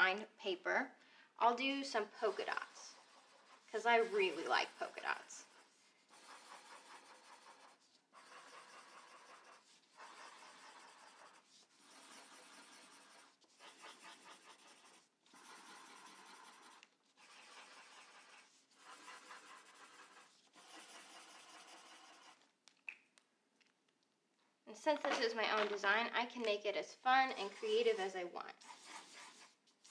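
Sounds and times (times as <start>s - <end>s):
marker scribbling on paper: 1.4s - 22.5s, 24.9s - 29.9s.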